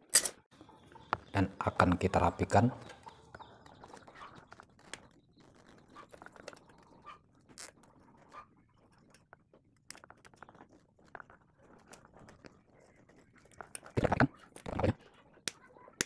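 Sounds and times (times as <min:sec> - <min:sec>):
wires rustling and clicking: 0:00.0 - 0:16.0.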